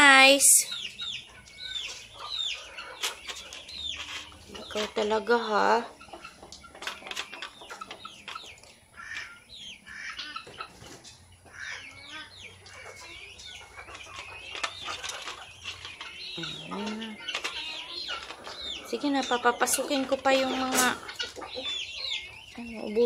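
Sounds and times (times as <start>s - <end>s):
beaks pecking on concrete: 0.0s - 23.0s
chickens clucking: 0.0s - 23.0s.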